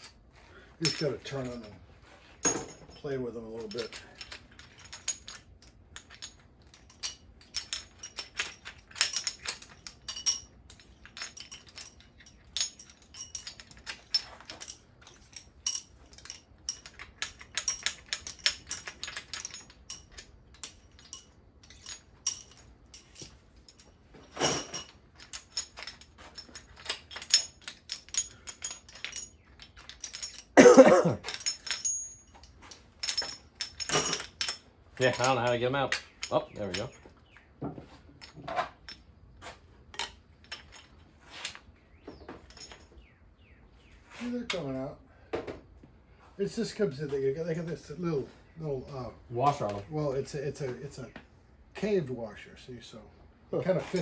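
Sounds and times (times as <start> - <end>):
metal tools and bolts clinking: 0.0 - 45.6, 46.4 - 51.2, 53.5 - 54.0.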